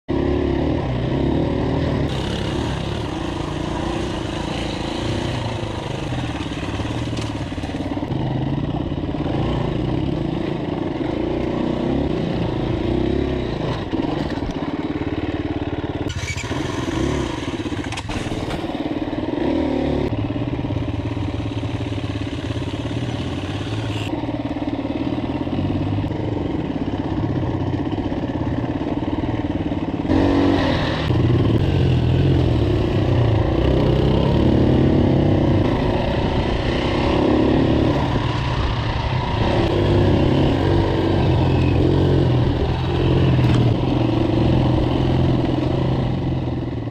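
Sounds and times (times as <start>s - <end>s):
dirt bike engine revving: 0.1s - 46.9s.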